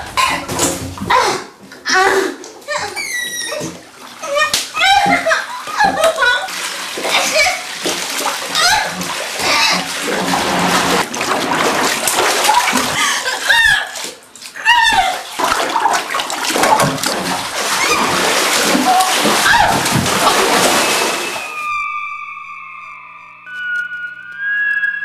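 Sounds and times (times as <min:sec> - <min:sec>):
water splashing in bathtub: 0:00.0 - 0:21.8.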